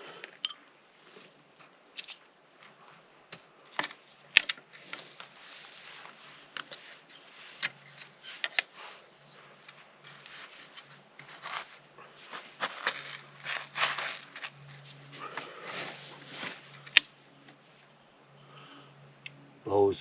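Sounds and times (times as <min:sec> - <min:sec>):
rustling: 0:01.0 - 0:18.0.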